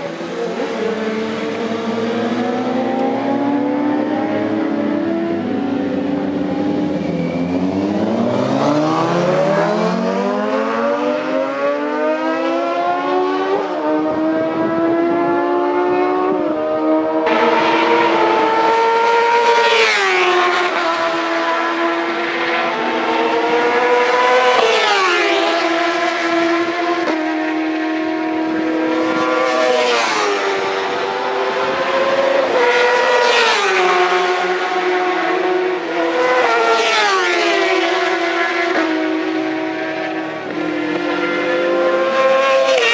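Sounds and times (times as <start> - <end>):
motorcycle engine accelerating: 0.4 - 36.8, 37.6 - 42.9.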